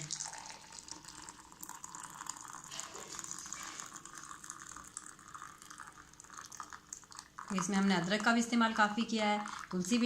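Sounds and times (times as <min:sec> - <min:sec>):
water running: 0:00.0 - 0:10.0.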